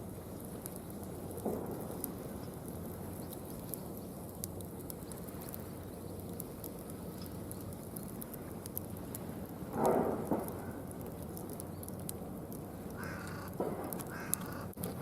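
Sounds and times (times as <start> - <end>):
campfire flames rushing: 0.0 - 15.0
wood crackling and popping: 0.0 - 15.0.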